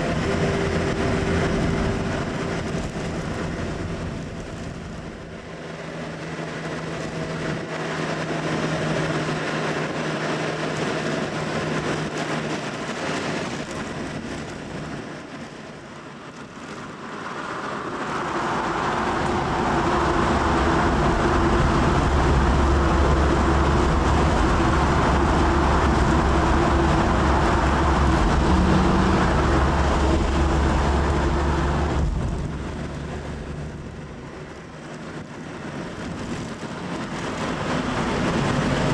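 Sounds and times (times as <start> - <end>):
car engine and tyre noise: 0.0 - 38.9
echoing rumble in tunnel: 0.0 - 38.9.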